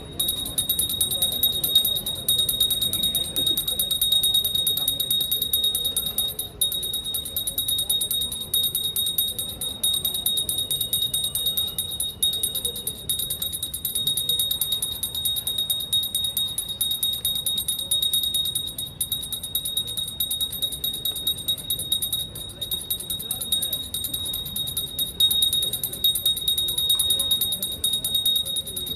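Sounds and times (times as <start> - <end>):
brass hand bell ringing rapidly: 0.0 - 28.9.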